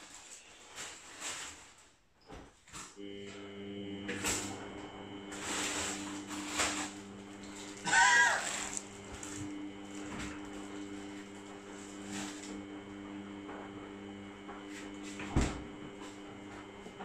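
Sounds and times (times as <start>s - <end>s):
electrical hum: 2.9s - 17.0s.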